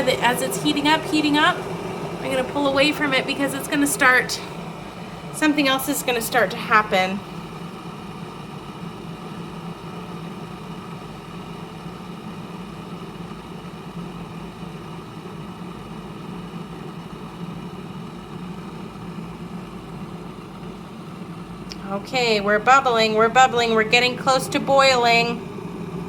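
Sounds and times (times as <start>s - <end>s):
kettle water rumbling and hissing: 0.0s - 26.0s.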